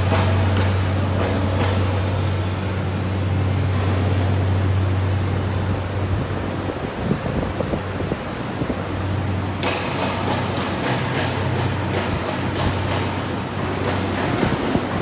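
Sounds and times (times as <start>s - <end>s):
machine humming with hiss: 0.0s - 15.0s.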